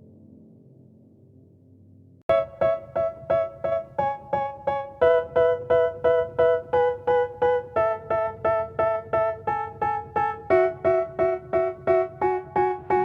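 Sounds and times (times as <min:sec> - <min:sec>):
keyboard repeated chords: 0:02.3 - 0:13.0.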